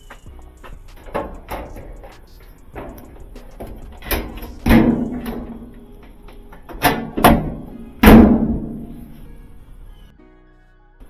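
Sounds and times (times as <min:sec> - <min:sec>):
sheet metal knocking and clanking: 0:00.0 - 0:09.1.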